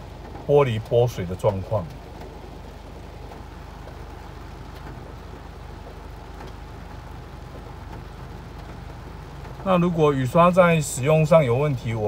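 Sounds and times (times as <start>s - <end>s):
car engine humming: 0.0s - 12.0s
rain tapping on windshield: 0.0s - 12.0s.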